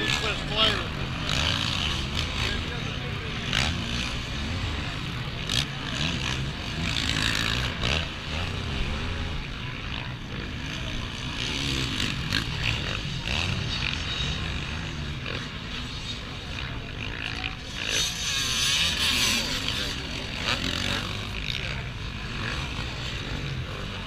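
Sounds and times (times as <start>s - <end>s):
motocross engines revving: 0.0s - 24.0s.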